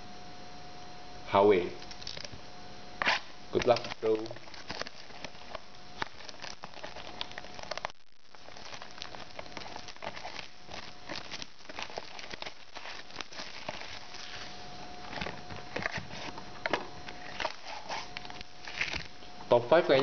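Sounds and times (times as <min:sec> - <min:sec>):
foil wrapper crinkling and tearing: 0:01.8 - 0:02.4, 0:03.0 - 0:19.2
cards being handled: 0:03.0 - 0:19.1.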